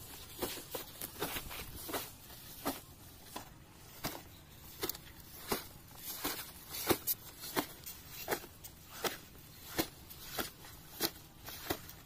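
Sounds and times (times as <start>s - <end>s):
footsteps on sand: 0.0s - 12.0s
plastic pipe crinkling: 0.0s - 12.0s.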